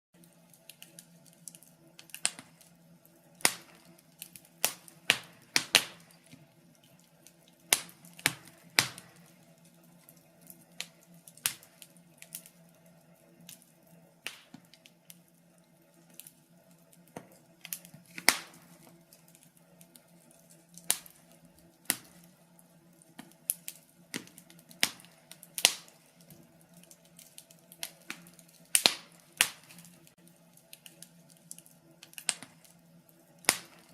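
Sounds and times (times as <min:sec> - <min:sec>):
faint steady hum: 0:00.2 - 0:33.9
wood fire crackling and popping: 0:00.2 - 0:33.9.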